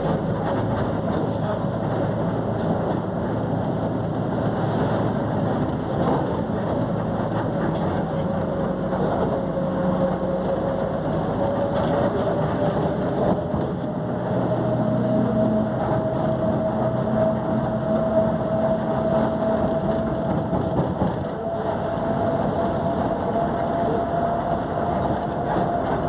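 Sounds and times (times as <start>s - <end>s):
bus differential whine: 0.0s - 26.0s
road rumble: 0.0s - 26.0s.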